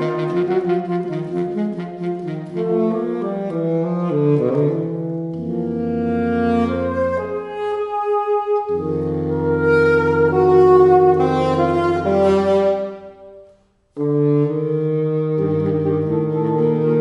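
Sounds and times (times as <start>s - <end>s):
saxophone trio playing: 0.0s - 17.0s.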